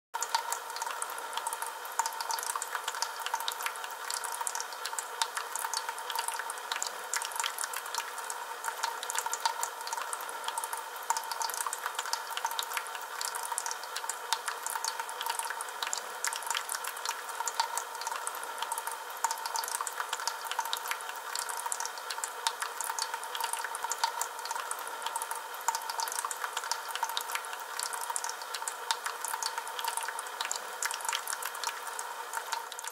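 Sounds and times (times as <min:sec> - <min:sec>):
fountain water trickling: 0:00.2 - 0:32.9.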